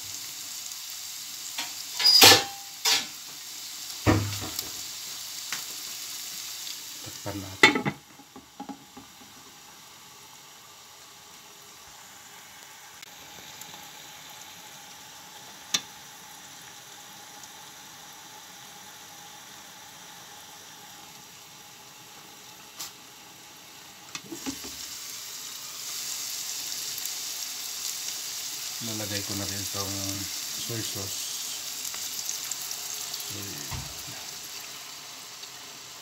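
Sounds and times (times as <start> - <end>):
food sizzling in a pot: 0.0 - 36.0.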